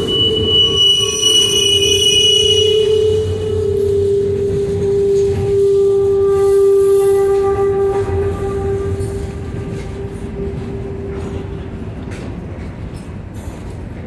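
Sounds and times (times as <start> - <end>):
train wheel squeal: 0.0 - 14.0
train wheels rumbling on rails: 0.0 - 14.0.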